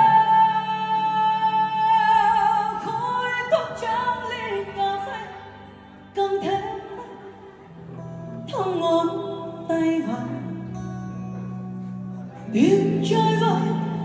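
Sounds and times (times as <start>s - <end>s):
woman singing a ballad: 0.0s - 7.4s, 8.2s - 11.0s, 12.5s - 14.0s.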